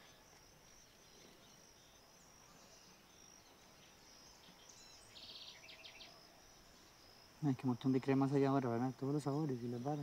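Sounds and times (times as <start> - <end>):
insect chirring: 0.0 - 10.0
low outdoor hiss: 0.0 - 10.0.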